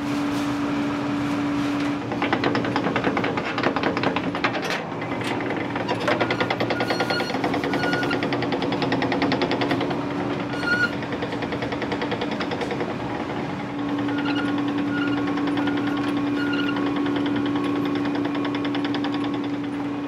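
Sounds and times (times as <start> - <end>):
rapid steady knocking: 2.1 - 20.0.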